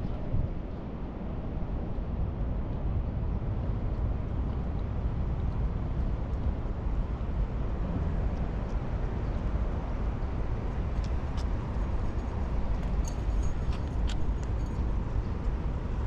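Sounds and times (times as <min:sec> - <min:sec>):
faint city hum: 0:00.0 - 0:16.0.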